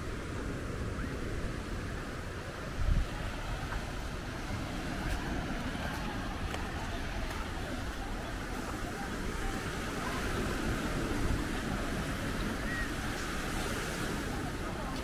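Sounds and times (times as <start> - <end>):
ocean surf washing: 0.0 - 15.0
wind on microphone: 0.0 - 15.0.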